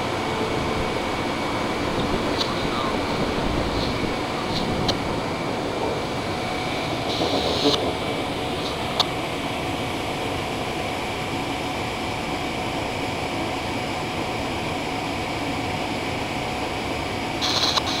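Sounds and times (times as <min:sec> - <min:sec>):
faint whining tones: 0:00.0 - 0:18.0
train moving with hum and hiss: 0:00.0 - 0:18.0.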